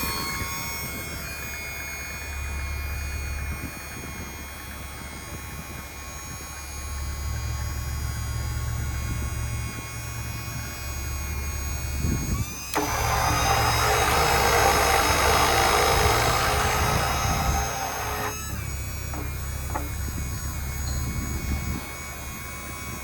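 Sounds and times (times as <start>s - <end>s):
hydraulic crane hum and whine: 0.0s - 23.0s.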